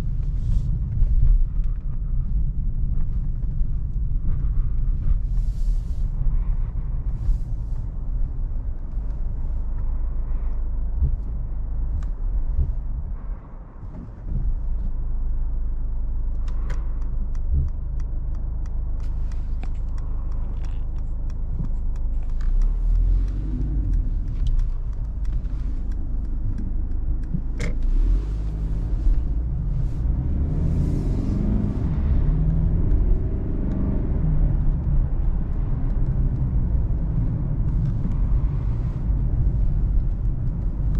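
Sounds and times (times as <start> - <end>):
diesel car engine running: 0.0 - 40.9
road and wind noise: 0.0 - 40.9.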